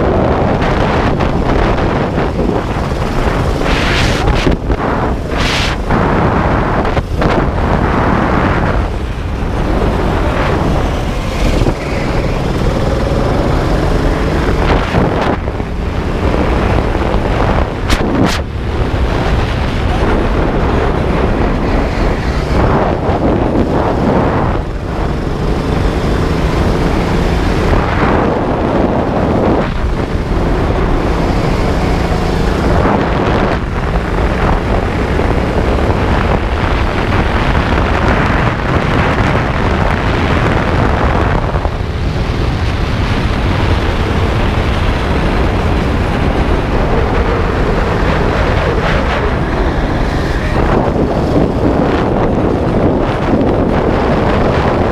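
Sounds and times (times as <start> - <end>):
go-kart engine running: 0.0 - 54.9
wind buffeting on microphone: 0.0 - 54.9.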